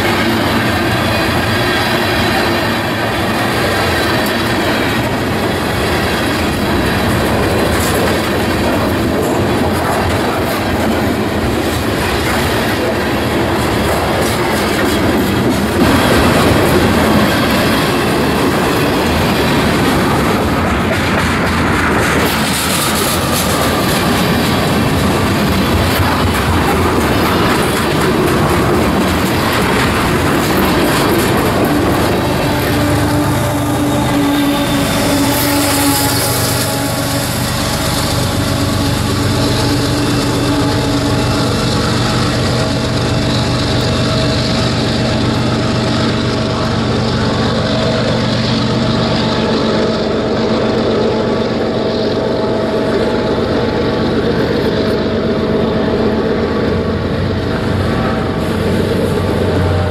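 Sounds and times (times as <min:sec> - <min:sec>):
diesel locomotive engine drone: 0:00.0 - 0:59.9
train wheels clicking over rail joints: 0:00.0 - 0:59.9.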